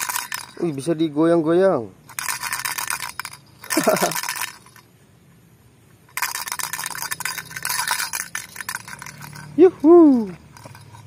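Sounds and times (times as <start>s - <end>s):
plastic toy rattle shaking: 0.0s - 1.2s, 2.0s - 5.0s, 6.0s - 11.0s.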